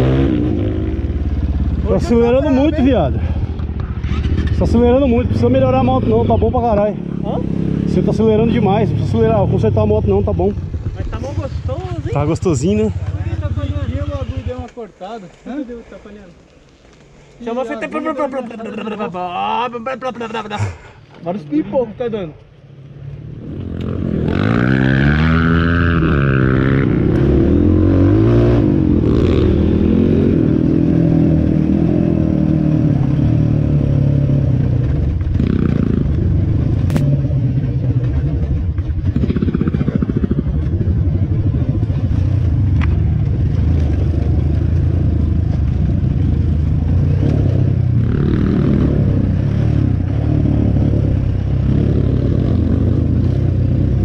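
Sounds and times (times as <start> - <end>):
dirt bike engine revving: 0.0 - 14.6, 23.3 - 54.0.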